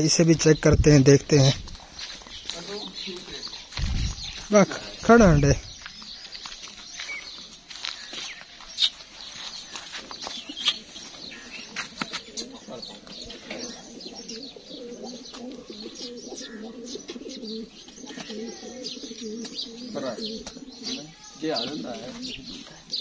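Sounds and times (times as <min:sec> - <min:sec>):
small birds chirping: 0:00.0 - 0:23.0
doves cooing: 0:02.8 - 0:23.0.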